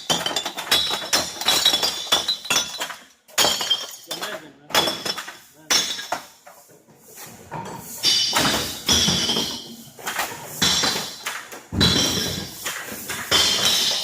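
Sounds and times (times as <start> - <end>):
drink containers crashing into bins: 0.0 - 6.4, 8.0 - 14.0.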